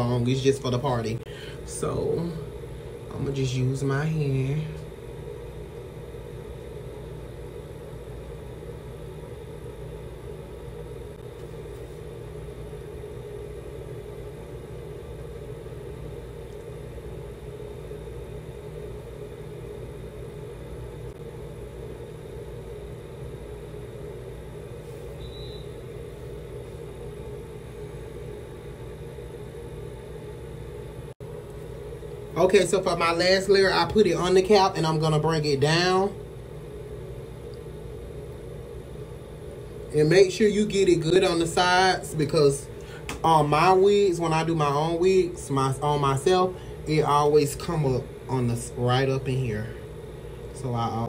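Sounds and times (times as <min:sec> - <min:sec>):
ventilation fan humming: 0:00.0 - 0:51.0.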